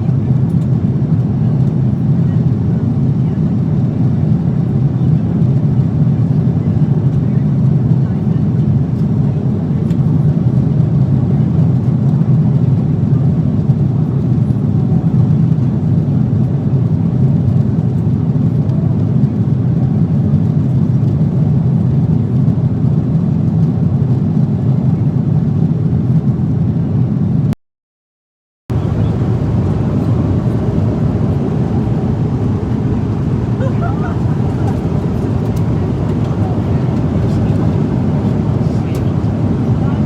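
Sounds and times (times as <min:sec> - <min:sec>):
jet engine cabin rumble: 0:00.0 - 0:27.6, 0:28.7 - 0:40.0.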